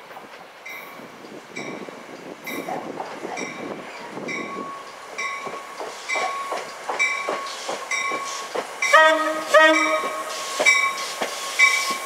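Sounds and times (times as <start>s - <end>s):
train wheels clattering on rails: 0.0s - 12.0s
railroad crossing bell ringing: 0.7s - 2.8s, 3.4s - 12.0s.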